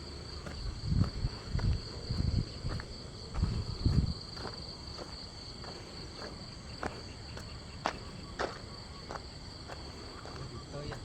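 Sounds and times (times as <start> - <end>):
crickets and night insects chirping: 0.0 - 11.0.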